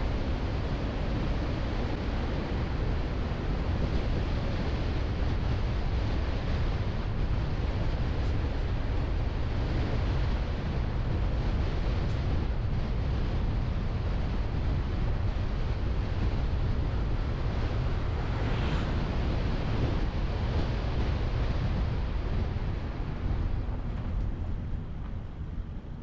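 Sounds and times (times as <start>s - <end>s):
car rumble on road: 0.0s - 26.0s
wind buffeting microphone: 0.0s - 26.0s.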